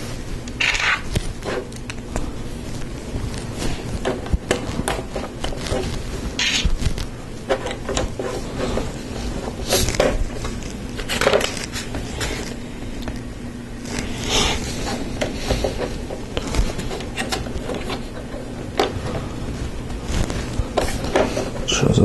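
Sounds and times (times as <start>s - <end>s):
rustling scrapes: 2.3s - 12.8s, 13.7s - 21.8s.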